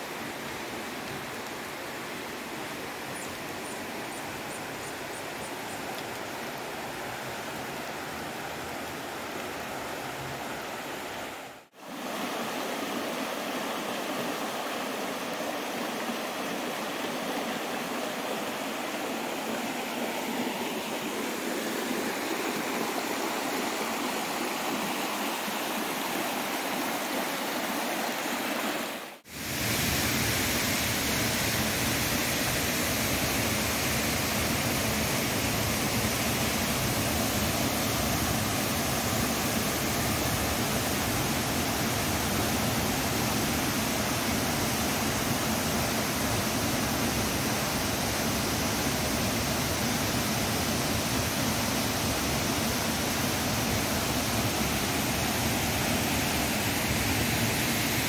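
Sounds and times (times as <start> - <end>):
stream water over rocks: 0.0 - 58.0.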